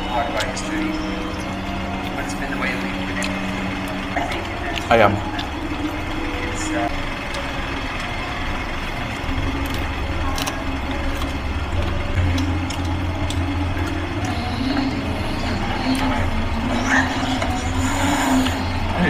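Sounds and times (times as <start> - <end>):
low rumble of background noise: 0.0 - 19.0
wavering hum: 0.0 - 19.0
crisp cracker being chewed: 0.3 - 18.7.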